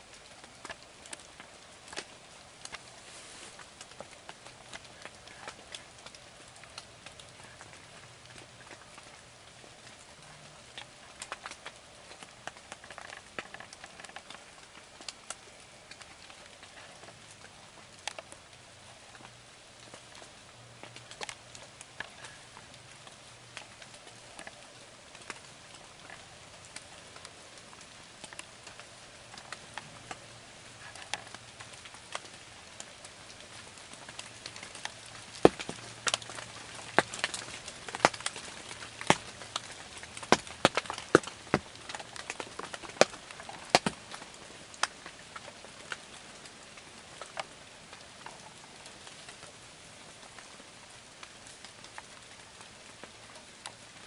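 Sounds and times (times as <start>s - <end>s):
raindrops ticking on a blind: 0.0s - 54.0s.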